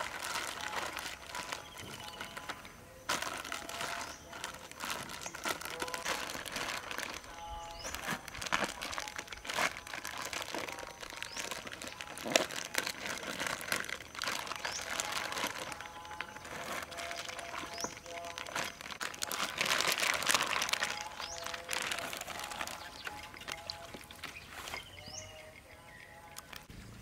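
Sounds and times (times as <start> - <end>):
plastic bag crinkling: 0.0 - 25.6, 26.3 - 26.7.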